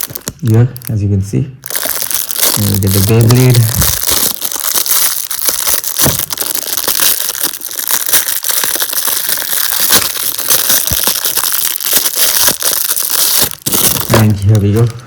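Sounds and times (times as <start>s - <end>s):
packaging crinkling: 0.0s - 1.0s, 1.6s - 15.0s.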